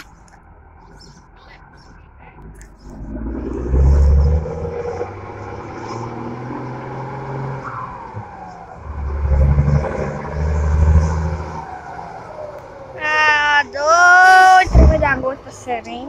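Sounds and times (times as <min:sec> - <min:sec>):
truck diesel engine surging: 0:00.0 - 0:16.0.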